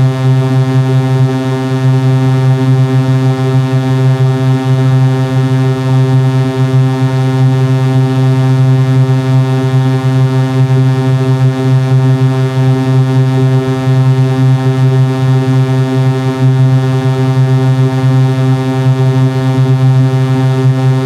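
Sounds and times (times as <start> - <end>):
synthesized buzzing drone: 0.0 - 21.0.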